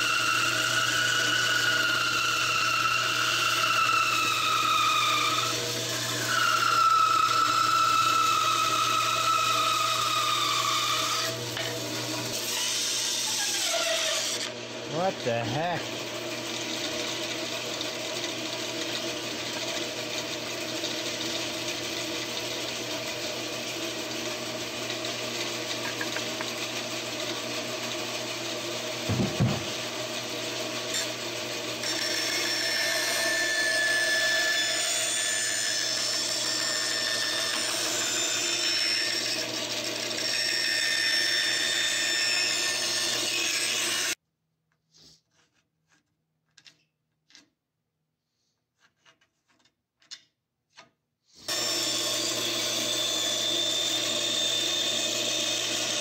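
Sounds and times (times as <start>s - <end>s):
bandsaw motor humming: 0.0s - 44.2s, 51.5s - 56.0s
saw blade cutting wood: 0.0s - 44.2s, 51.4s - 56.0s.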